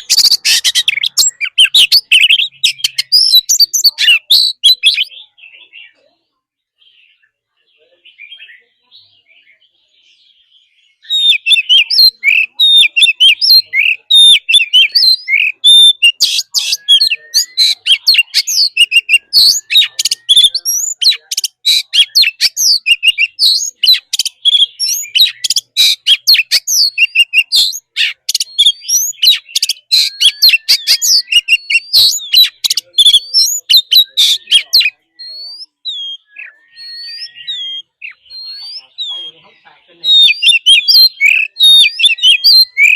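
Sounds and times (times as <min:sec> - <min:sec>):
bird singing whistled song: 0:00.0 - 0:06.0, 0:06.8 - 0:42.9.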